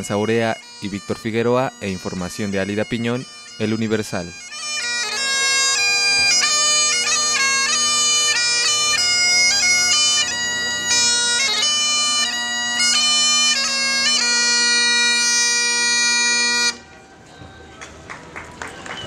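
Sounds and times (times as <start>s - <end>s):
bagpipe chanter melody: 0.0s - 17.3s
bagpipe drones humming: 0.0s - 19.0s.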